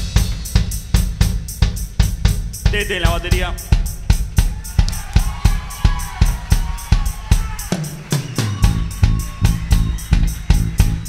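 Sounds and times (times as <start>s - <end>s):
drum kit beat: 0.0s - 11.0s.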